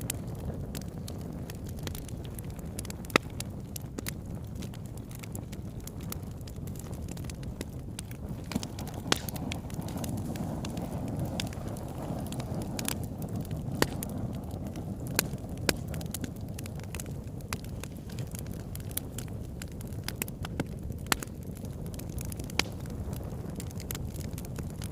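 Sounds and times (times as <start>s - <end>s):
fire crackling and popping: 0.0s - 24.9s.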